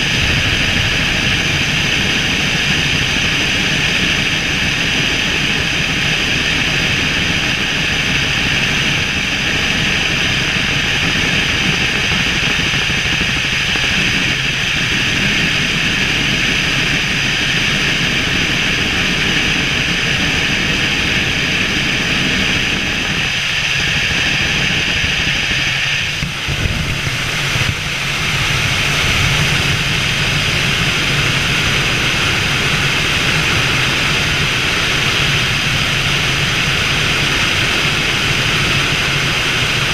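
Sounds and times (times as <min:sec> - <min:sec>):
helicopter engine whine: 0:00.0 - 0:39.9
helicopter rotor drone: 0:00.0 - 0:39.9.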